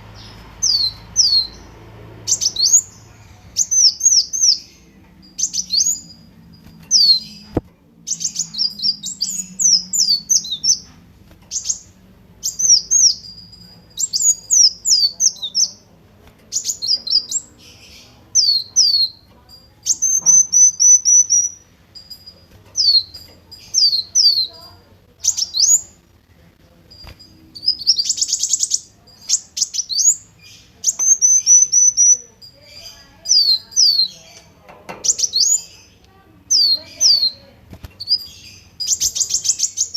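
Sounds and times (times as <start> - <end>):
bird singing high sharp notes: 0.0 - 15.9, 16.5 - 26.0, 26.9 - 39.9
buzzy bird trill: 0.0 - 15.9, 16.5 - 26.1, 26.9 - 39.9.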